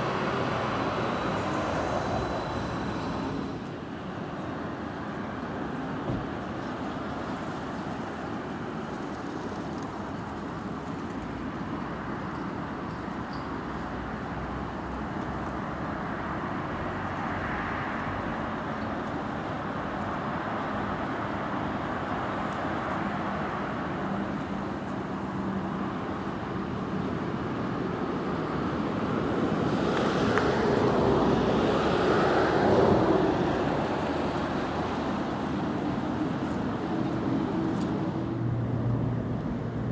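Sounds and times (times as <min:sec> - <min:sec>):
road traffic hum: 0:00.0 - 0:39.9.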